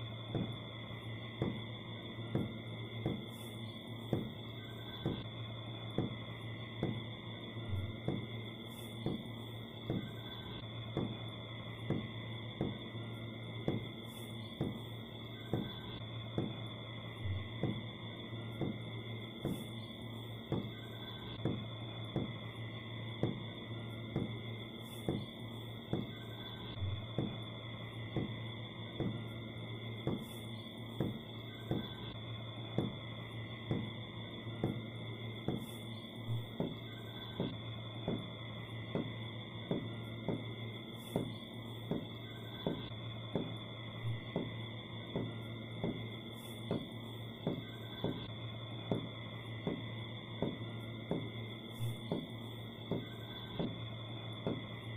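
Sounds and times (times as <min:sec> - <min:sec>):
high ringing tones: 0:00.0 - 0:54.9
low hum: 0:00.0 - 0:54.9.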